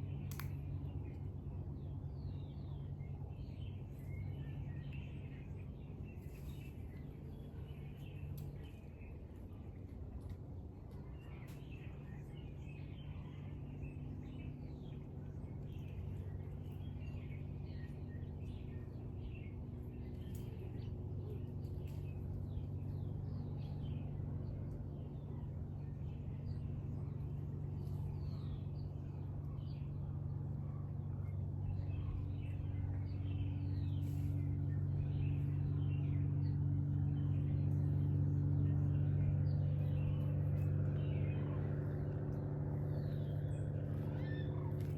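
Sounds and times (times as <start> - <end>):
low engine drone: 0.0 - 44.9
small birds chirping: 0.0 - 44.9.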